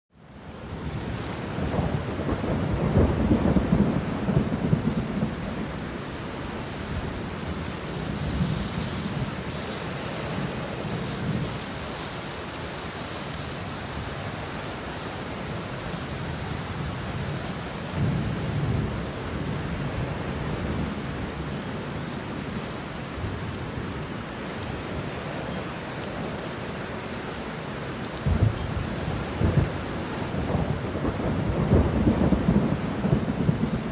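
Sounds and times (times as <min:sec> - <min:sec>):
pouring rain hiss: 0:00.2 - 0:33.9.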